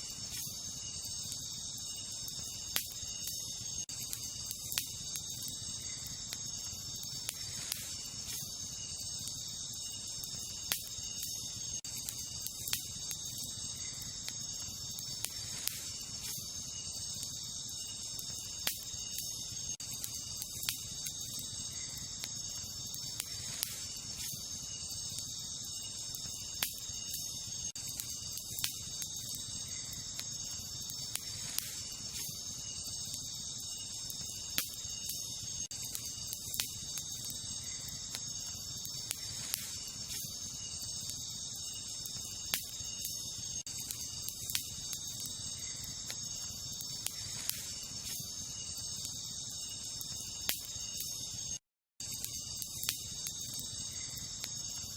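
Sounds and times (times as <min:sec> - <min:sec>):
crickets chirping: 0:00.0 - 0:54.9
campfire crackling and popping: 0:00.1 - 0:54.9.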